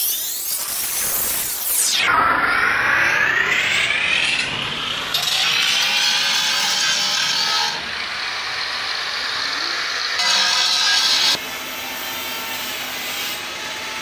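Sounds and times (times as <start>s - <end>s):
power tool cutting wood: 0.0s - 14.0s.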